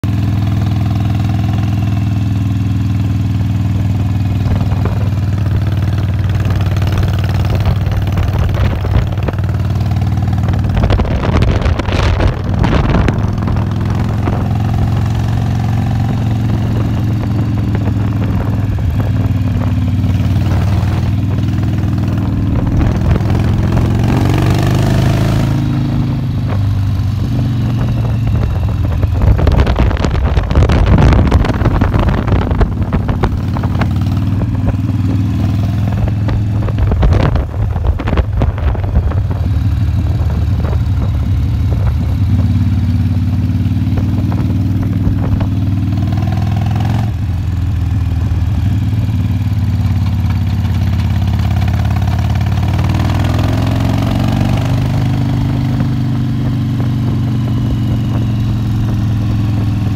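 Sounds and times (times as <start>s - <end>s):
motorcycle engine running: 0.0s - 59.9s
wind buffeting microphone: 3.7s - 50.0s, 50.6s - 59.9s.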